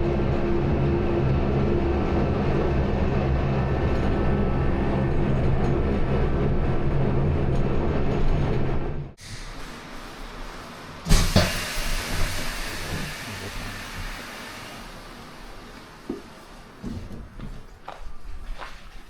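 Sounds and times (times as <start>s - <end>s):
electric train motors humming: 0.0s - 19.0s.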